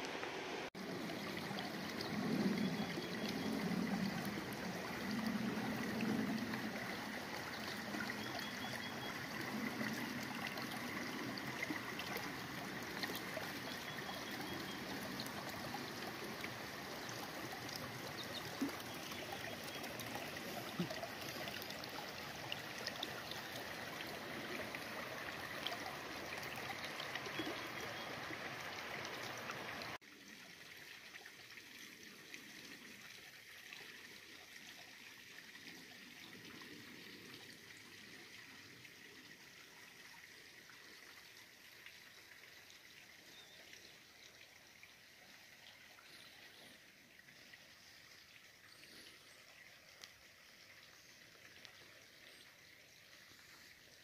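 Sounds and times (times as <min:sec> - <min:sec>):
creek flowing over rocks: 0:00.0 - 0:54.0.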